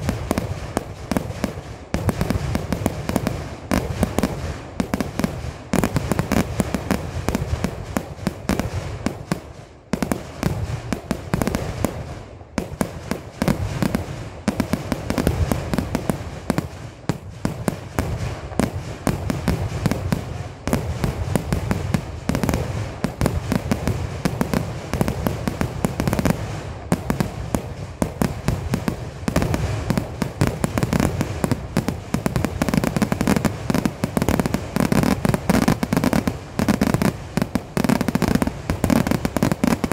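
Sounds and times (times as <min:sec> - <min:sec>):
fireworks exploding rapidly: 0:00.0 - 0:39.9.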